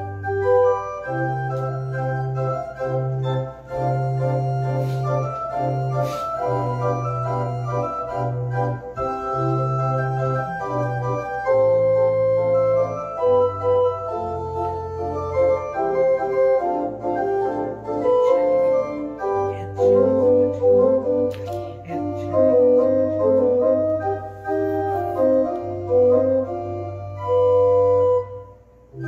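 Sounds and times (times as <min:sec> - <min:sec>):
organ playing slow chords: 0:00.0 - 0:29.0.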